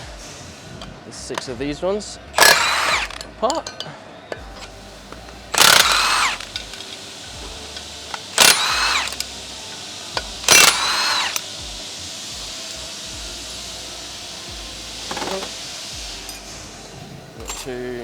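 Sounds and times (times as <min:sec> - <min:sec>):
impact wrench bursts: 0:02.4 - 0:03.7, 0:04.4 - 0:18.0.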